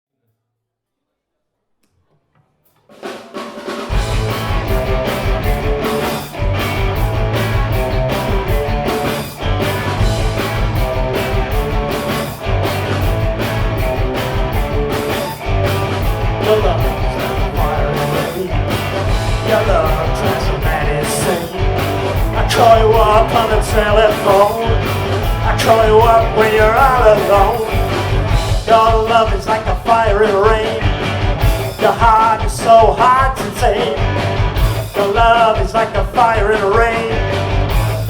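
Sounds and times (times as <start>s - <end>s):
rock band playing live: 3.0s - 38.0s.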